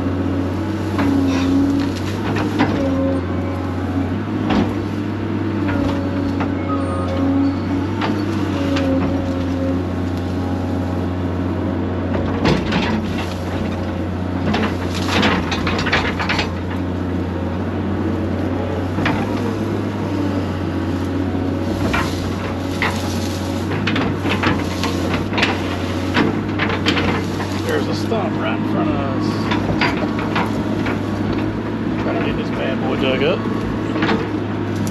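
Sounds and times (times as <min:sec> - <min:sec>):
excavator engine running: 0:00.0 - 0:34.9
roots cracking and scraping: 0:00.0 - 0:34.9.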